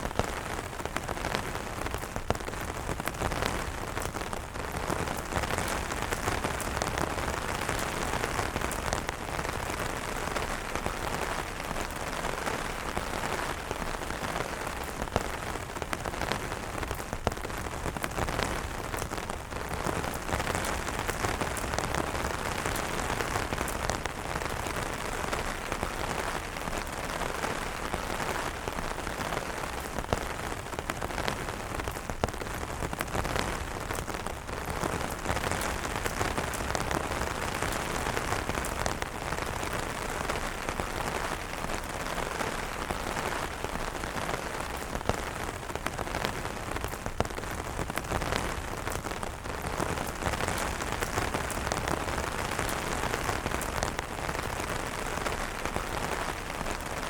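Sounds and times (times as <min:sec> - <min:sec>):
rain on umbrellas: 0:00.0 - 0:57.0.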